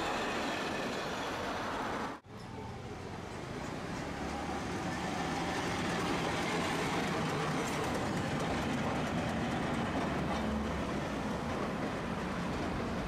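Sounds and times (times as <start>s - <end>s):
streetcar rumbling on rails: 0.0s - 13.0s.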